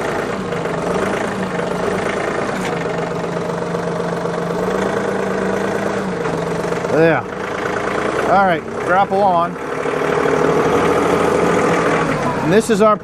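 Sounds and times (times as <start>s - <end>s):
loader engine idling: 0.0s - 13.0s.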